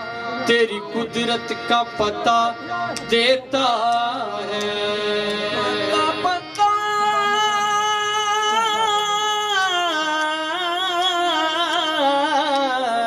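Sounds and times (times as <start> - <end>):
harmonium: 0.0 - 13.0
man singing long notes: 0.4 - 13.0.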